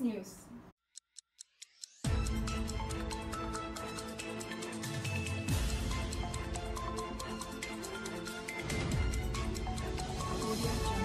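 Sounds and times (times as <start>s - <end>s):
music with steady beat: 1.4s - 11.0s.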